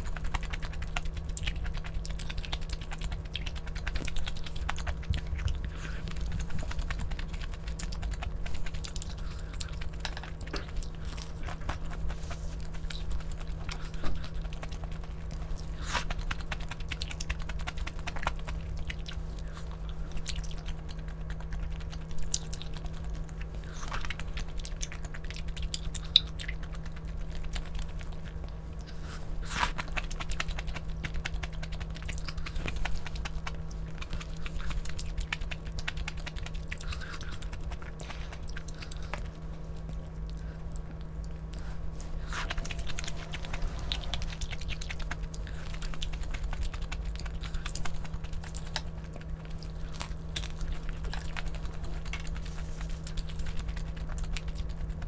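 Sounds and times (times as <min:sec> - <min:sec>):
person chewing and biting food: 0:00.0 - 0:55.0
steady low hum: 0:00.0 - 0:55.0.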